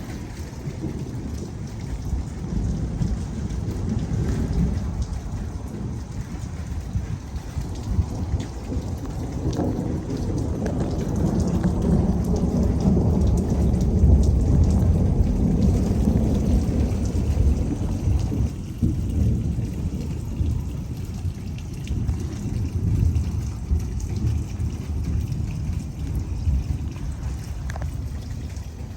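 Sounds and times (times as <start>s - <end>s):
steady rain: 0.0s - 28.9s
thunder rumbling: 0.0s - 28.9s.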